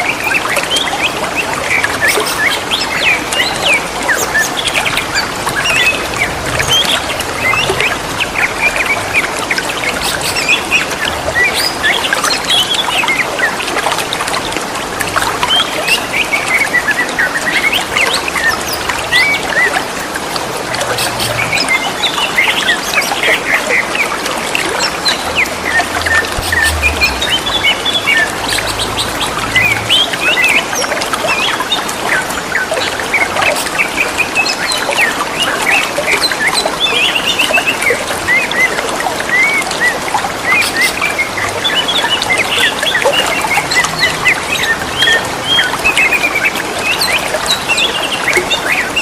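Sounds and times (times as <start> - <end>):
birds chirping and warbling: 0.0 - 49.0
running water trickling: 0.0 - 49.0.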